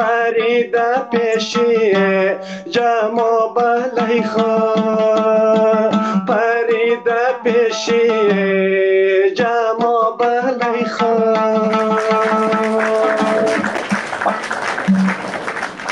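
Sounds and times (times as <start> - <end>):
long-necked lute strummed: 0.0 - 15.5.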